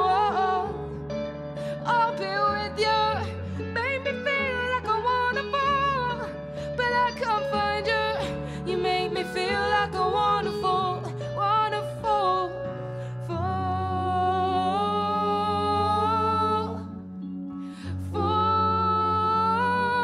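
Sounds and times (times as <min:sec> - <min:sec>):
electric guitar and keyboard: 0:00.0 - 0:20.0.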